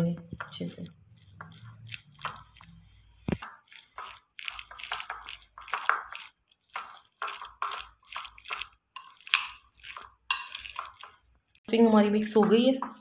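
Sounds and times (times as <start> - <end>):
spoon scraping and squelching: 0.0 - 13.0.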